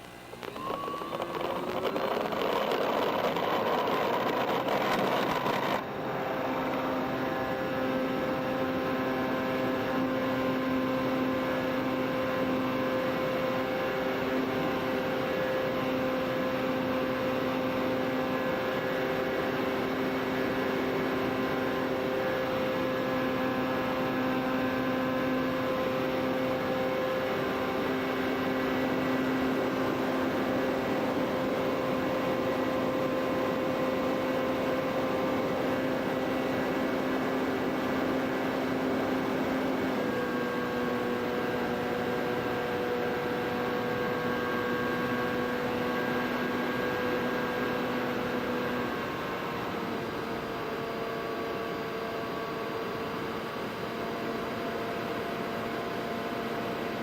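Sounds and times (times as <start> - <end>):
model aircraft motor droning: 0.3 - 57.0.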